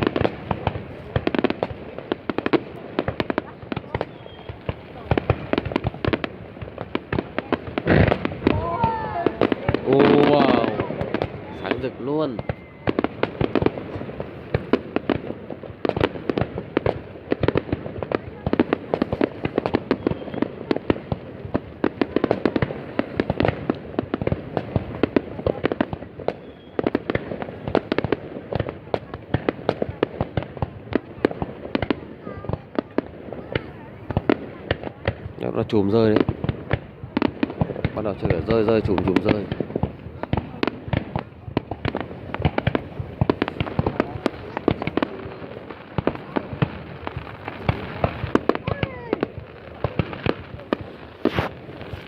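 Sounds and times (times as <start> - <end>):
fireworks bangs and cracks: 0.0 - 52.0.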